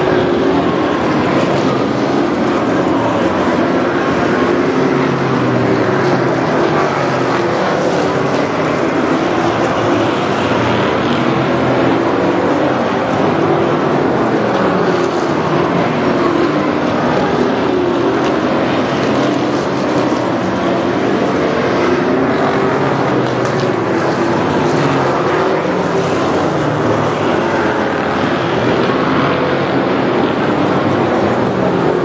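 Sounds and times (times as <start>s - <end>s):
racing car engines droning: 0.0s - 32.0s.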